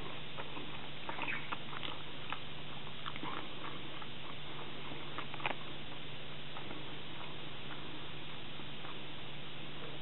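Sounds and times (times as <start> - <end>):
background hiss: 0.0 - 10.0
low hum: 0.0 - 10.0.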